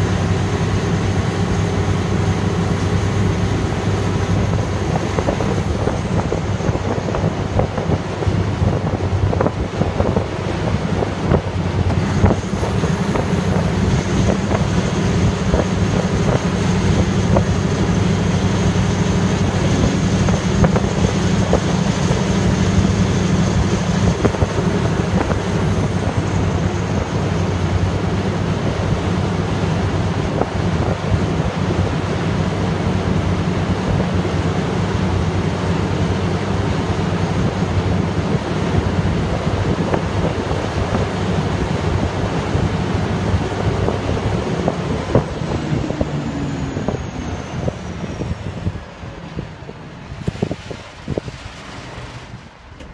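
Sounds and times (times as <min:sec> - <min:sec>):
diesel generator engine running: 0:00.0 - 0:52.9.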